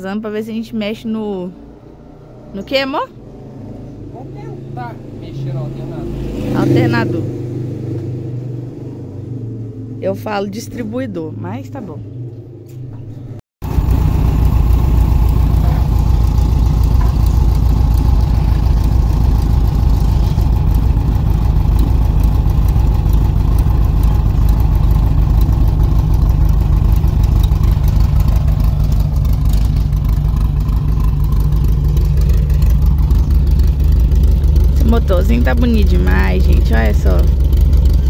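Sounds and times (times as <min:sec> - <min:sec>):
car engine idling: 0:00.0 - 0:07.2, 0:13.6 - 0:38.0.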